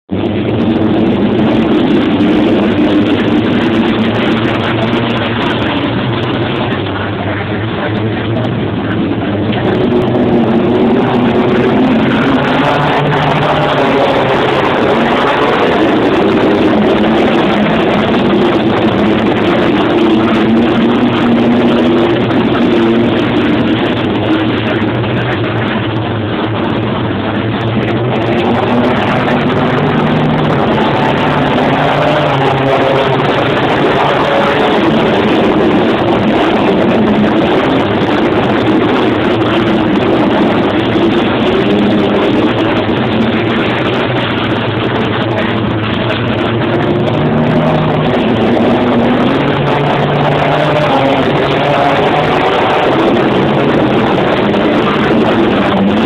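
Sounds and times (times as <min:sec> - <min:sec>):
racing car engines roaring: 0:00.0 - 0:56.0.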